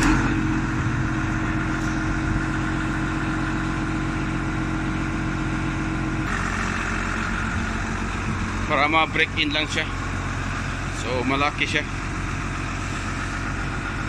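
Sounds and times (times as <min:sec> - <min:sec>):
diesel forklift engine running: 0:00.0 - 0:14.0.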